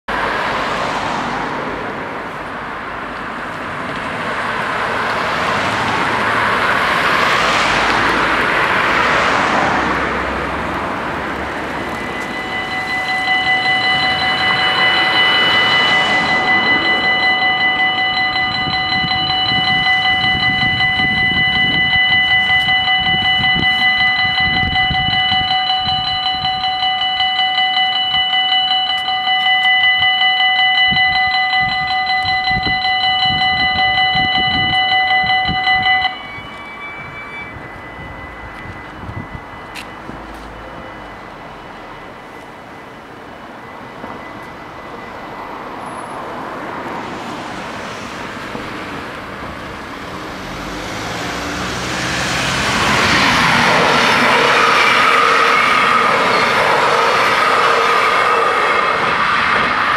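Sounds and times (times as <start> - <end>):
cars passing over crossing: 0.1 - 59.9
crossing warning bells: 0.1 - 59.9.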